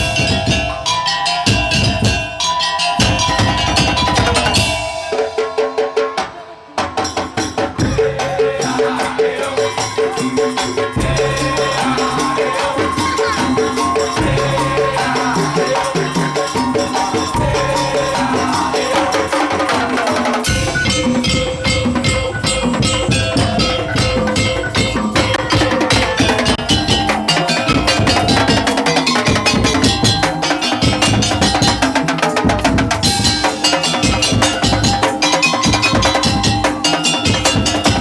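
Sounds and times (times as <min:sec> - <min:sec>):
percussion ensemble playing: 0:00.0 - 0:38.0.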